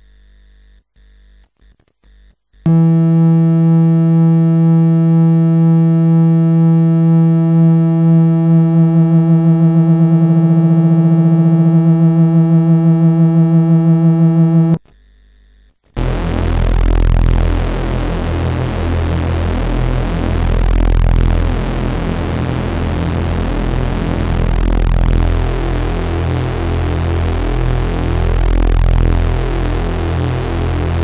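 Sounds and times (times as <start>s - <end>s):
low synth tone wavering: 2.7s - 14.8s, 16.0s - 31.0s.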